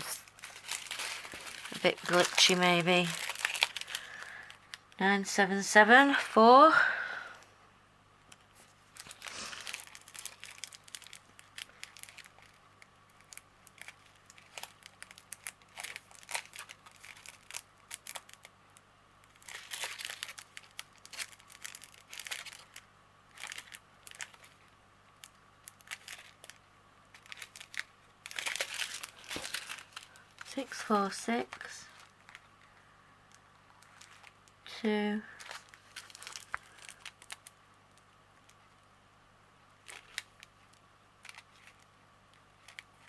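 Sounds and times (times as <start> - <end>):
plastic packets crinkling: 0.0 - 5.0, 8.3 - 18.6, 19.2 - 38.9, 39.8 - 43.0.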